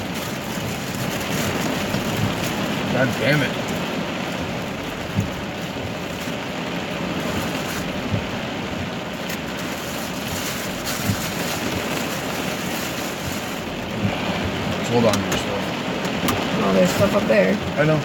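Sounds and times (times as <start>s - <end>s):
rain and wind hiss: 0.0s - 18.0s.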